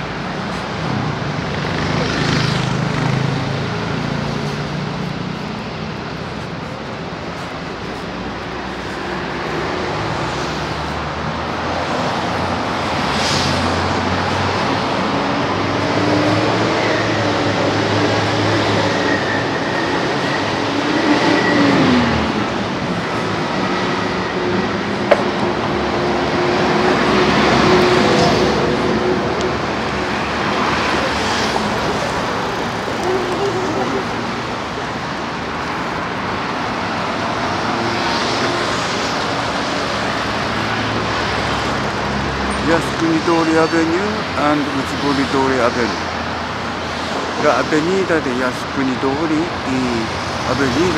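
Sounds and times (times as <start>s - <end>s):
traffic rumble: 0.0s - 50.9s
vehicle whine: 0.0s - 50.9s.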